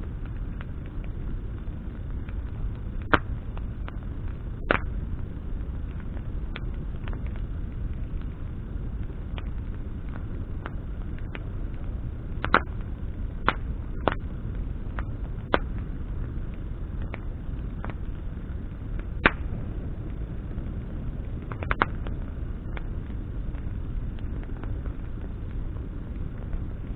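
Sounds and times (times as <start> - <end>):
campfire crackling and popping: 0.0 - 26.9
low rush of flames: 0.0 - 26.9.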